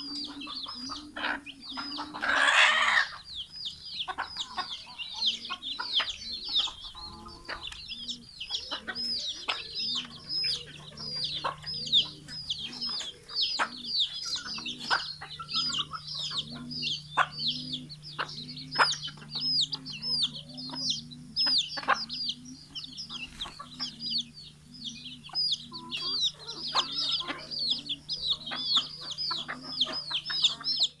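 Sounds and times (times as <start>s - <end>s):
chicks peeping: 0.0s - 31.0s
hens clucking: 0.0s - 31.0s.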